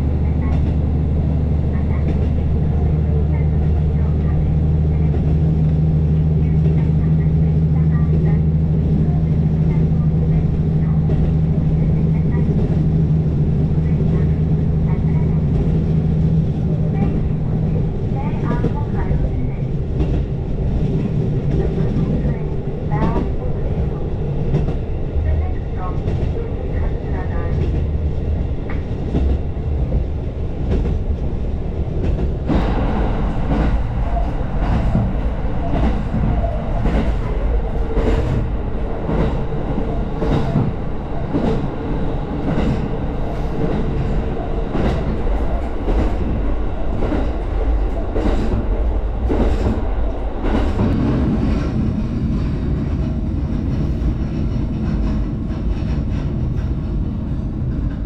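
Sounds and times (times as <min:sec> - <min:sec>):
diesel railcar rumble: 0:00.0 - 0:58.0.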